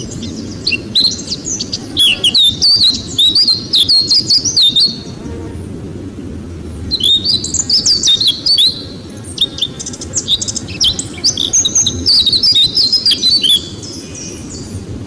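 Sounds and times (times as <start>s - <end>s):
low background rumble: 0.0s - 15.0s
songbirds chirping: 0.0s - 15.0s.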